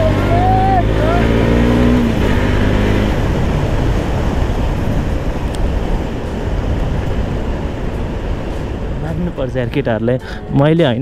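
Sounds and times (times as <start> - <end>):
motorcycle engine running: 0.0 - 8.9
rushing road and wind noise: 0.0 - 11.0.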